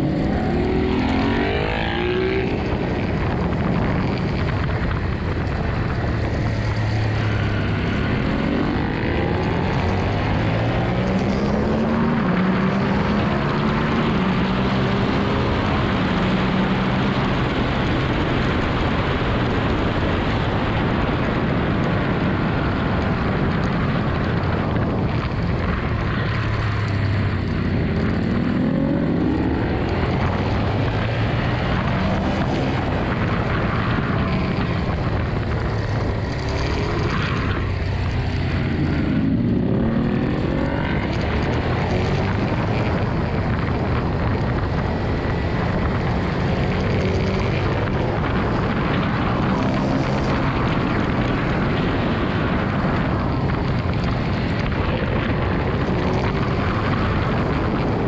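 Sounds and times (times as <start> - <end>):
motorcycle engine at high revs: 0.0 - 58.0
wind rush: 0.0 - 58.0.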